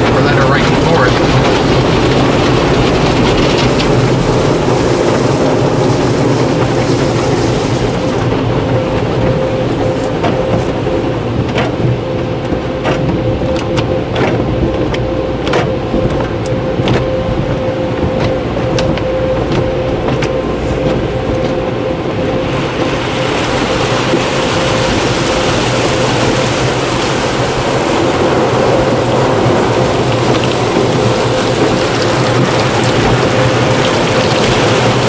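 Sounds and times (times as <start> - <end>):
car wash brushes swishing: 0.0 - 35.0
steady hum: 0.0 - 35.0
cloth strips slapping windshield: 0.1 - 35.0.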